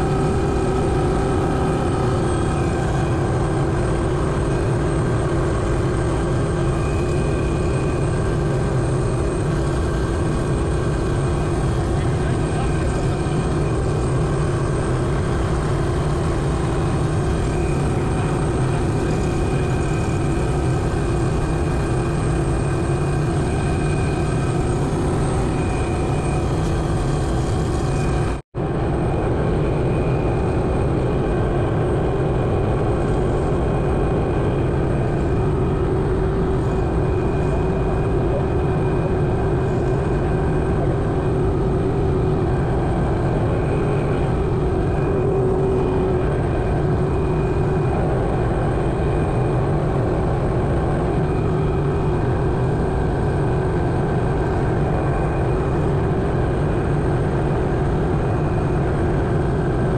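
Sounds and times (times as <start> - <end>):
helicopter engine and rotor running: 0.0 - 59.9.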